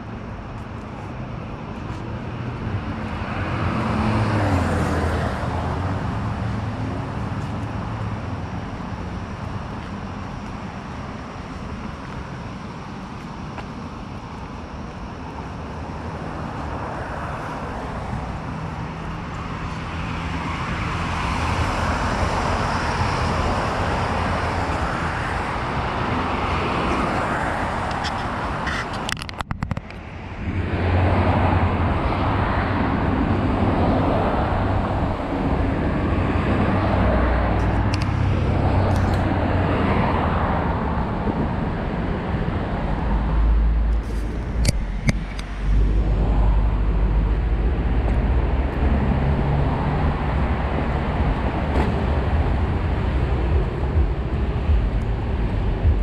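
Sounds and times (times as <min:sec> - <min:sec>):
highway traffic: 0:00.0 - 0:56.0.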